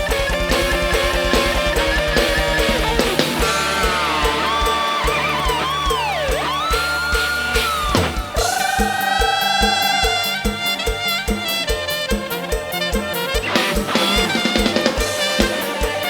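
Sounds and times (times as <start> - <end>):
rapid kick drum beat: 0.0 - 16.0
sliding bending lead notes: 0.0 - 16.0.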